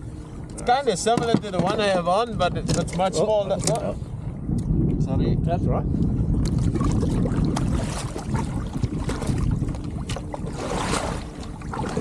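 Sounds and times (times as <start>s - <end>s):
water sloshing against hull: 0.0s - 5.1s, 5.9s - 12.0s
wind rumble on microphone: 0.0s - 12.0s.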